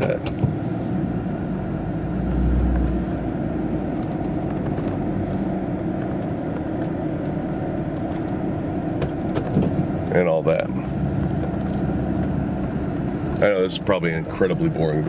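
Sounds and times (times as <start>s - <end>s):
car cabin engine and tyre drone: 0.0s - 15.0s
deep rumble: 0.0s - 15.0s.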